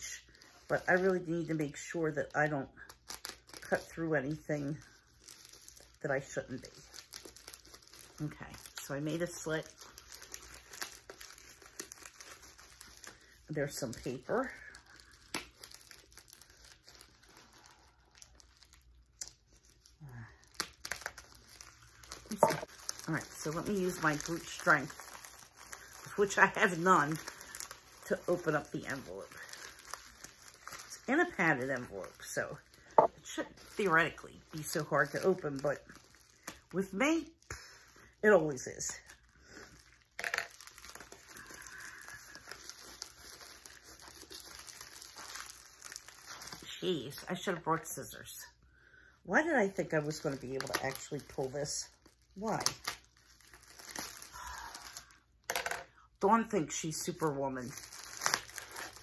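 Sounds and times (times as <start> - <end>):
padded envelope crinkling: 0.1 - 47.5, 49.9 - 55.5, 56.8 - 59.0.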